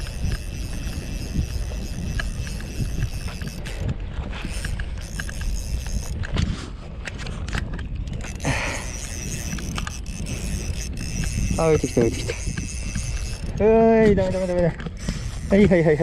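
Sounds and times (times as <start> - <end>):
small clicks: 0.0 - 15.8
wind buffeting microphone: 0.0 - 16.0.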